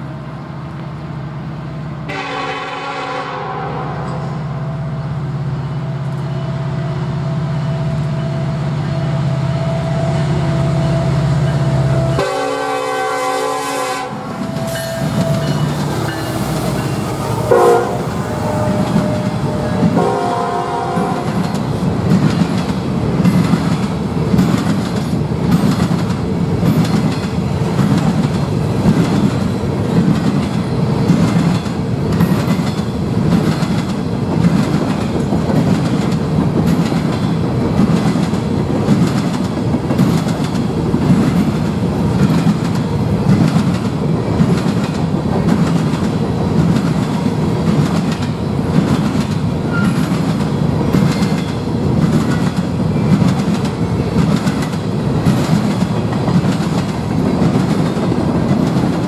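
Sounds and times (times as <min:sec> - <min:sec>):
freight train rolling past: 0:00.0 - 0:59.0
wheels clickety-clack on rail joints: 0:05.6 - 0:07.0, 0:09.7 - 0:59.0.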